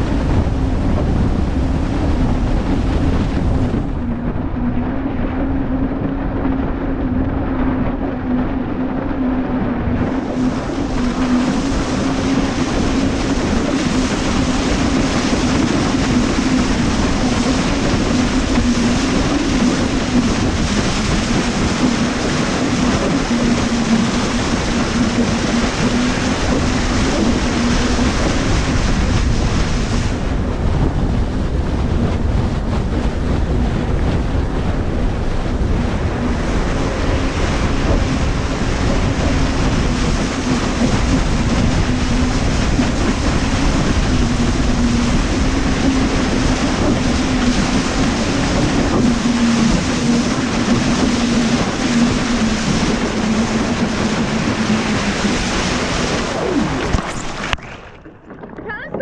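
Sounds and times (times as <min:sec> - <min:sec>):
rushing water: 0:00.0 - 0:59.0
watercraft engine humming: 0:00.0 - 0:59.0
wind buffeting microphone: 0:00.0 - 0:59.0.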